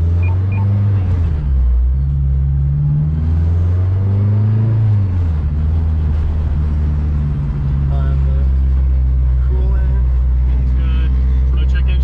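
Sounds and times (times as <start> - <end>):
car engine under throttle: 0.0 - 12.0.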